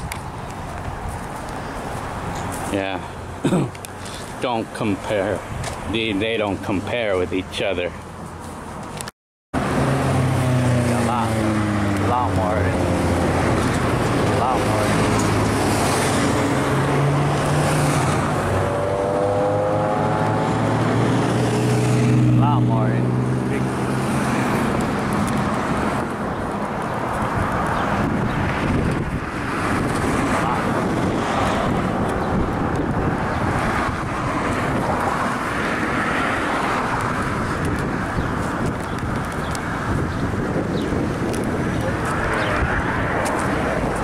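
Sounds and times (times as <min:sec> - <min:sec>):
wind buffeting microphone: 0:00.0 - 0:07.4, 0:10.0 - 0:44.0
road noise: 0:00.0 - 0:44.0.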